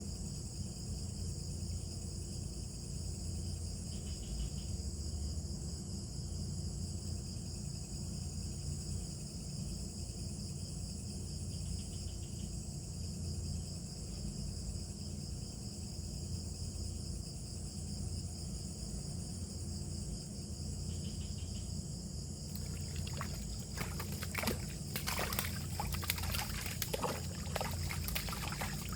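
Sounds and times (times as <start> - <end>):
insects chirring: 0.6 - 5.5, 6.2 - 28.9.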